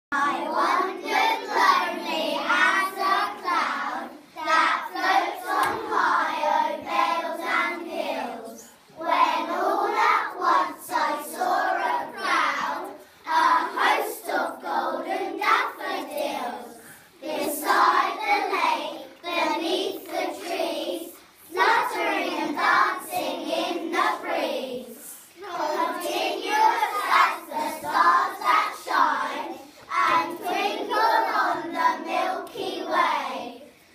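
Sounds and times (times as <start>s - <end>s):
young children singing: 0.1s - 33.9s.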